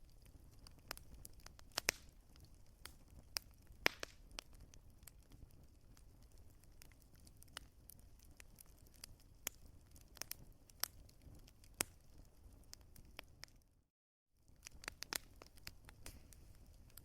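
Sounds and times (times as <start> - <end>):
low rumble of flames: 0.0 - 13.8, 14.4 - 17.0
wood fire crackling: 0.0 - 13.8, 14.4 - 17.0.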